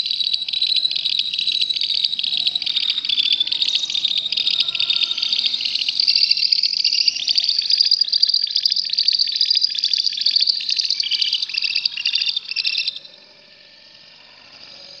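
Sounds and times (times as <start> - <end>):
lovebird chattering trill: 0.0 - 13.2.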